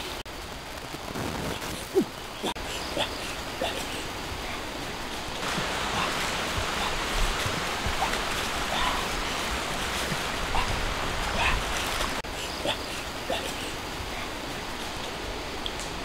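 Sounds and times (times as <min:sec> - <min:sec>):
rushing outdoor background noise: 0:00.0 - 0:16.0.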